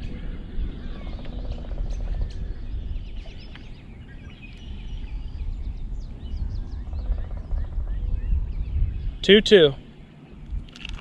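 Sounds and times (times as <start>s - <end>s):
birds chirping and whistling: 0.0s - 10.7s
steady low rumble: 0.0s - 11.0s.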